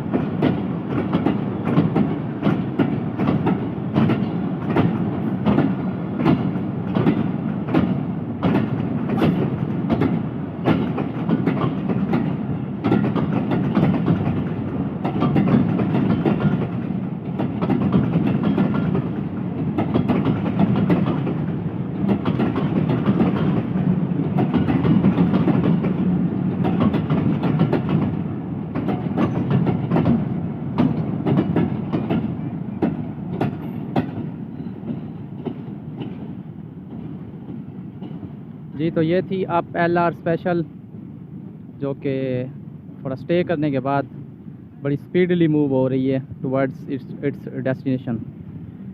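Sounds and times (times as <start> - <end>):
wheels clacking over rail joints: 0.0 - 39.6
freight train rumble: 0.0 - 48.9.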